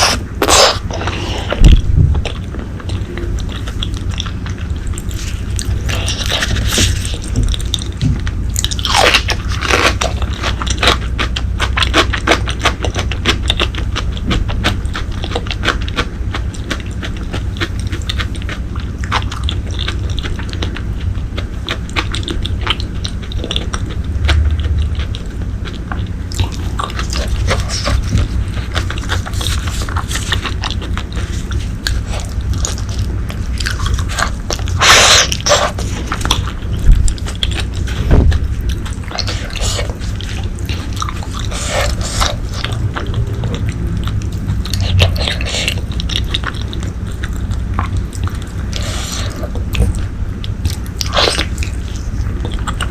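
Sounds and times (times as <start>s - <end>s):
close chewing and biting: 0.0s - 52.9s.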